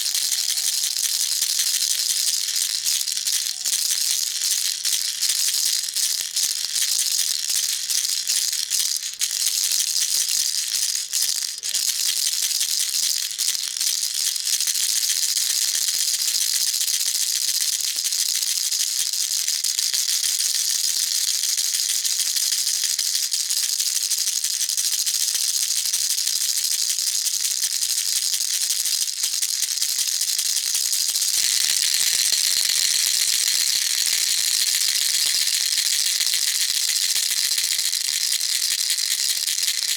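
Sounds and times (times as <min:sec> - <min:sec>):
baby rattle shaken: 0:00.0 - 0:16.7, 0:19.7 - 0:39.9.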